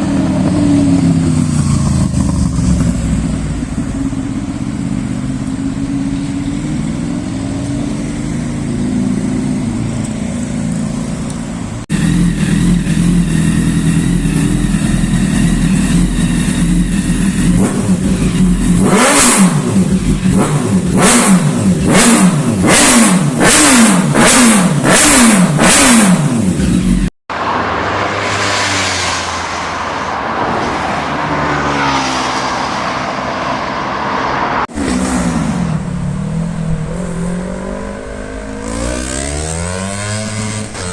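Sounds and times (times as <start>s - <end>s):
motorcycle exhausts revving: 0.0s - 27.1s, 34.7s - 40.9s.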